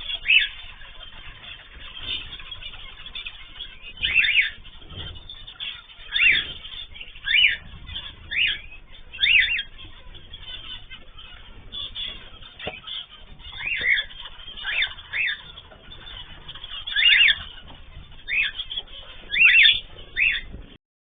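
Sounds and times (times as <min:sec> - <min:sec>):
bird chatter: 0:00.0 - 0:20.8.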